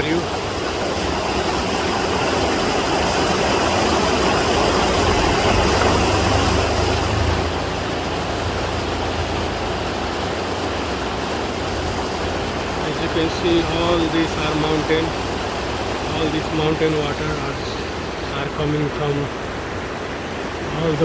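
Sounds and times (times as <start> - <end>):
deep water rumble: 0.0 - 21.0
waterfall rushing water: 0.0 - 21.0.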